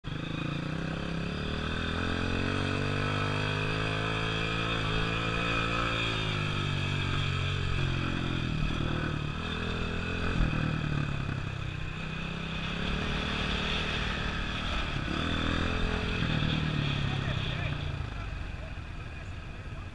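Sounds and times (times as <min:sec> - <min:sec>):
vehicle engine revving: 0:00.0 - 0:18.4.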